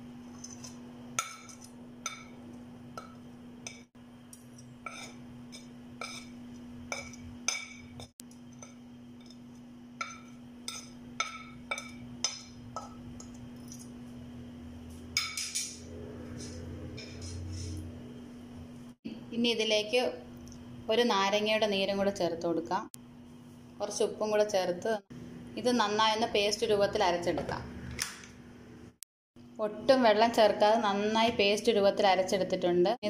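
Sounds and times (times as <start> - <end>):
steady low hum: 0.0 - 31.7.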